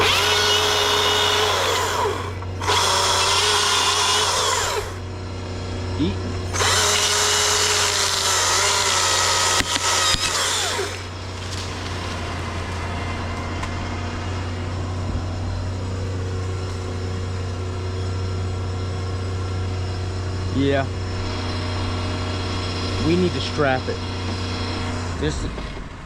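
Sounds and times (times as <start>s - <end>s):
chainsaw cutting at high revs: 0.0s - 14.9s, 15.6s - 25.8s
truck engine idling: 0.0s - 26.0s.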